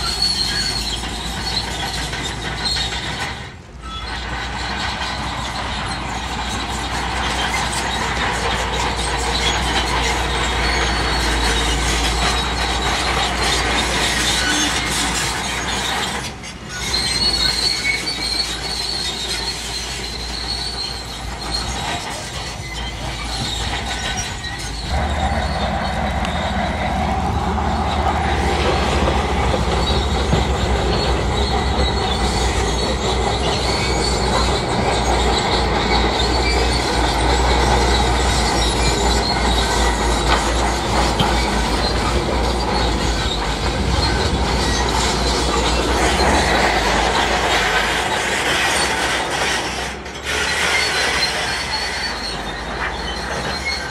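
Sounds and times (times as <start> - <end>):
bulldozer diesel engine rumble: 0.0 - 53.9
steel tracks squealing and clanking: 0.0 - 53.9.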